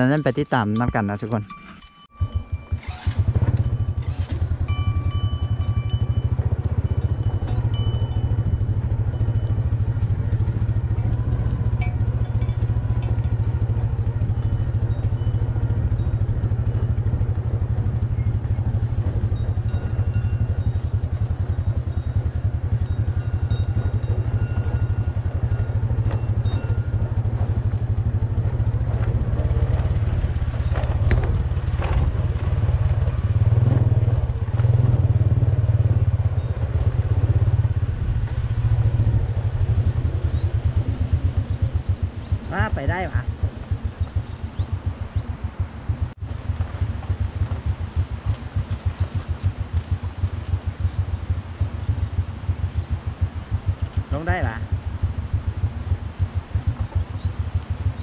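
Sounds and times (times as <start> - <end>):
motorcycle engine running: 2.1 - 58.0.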